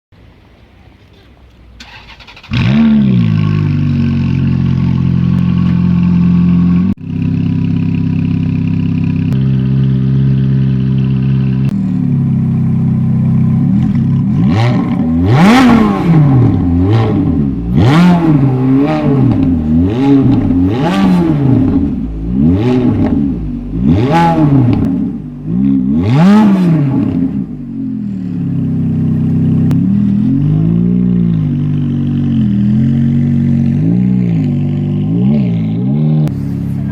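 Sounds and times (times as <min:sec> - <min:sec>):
car engine idling: 0:00.2 - 0:25.9, 0:27.0 - 0:36.9
engine revving in throttle blips: 0:01.8 - 0:36.9.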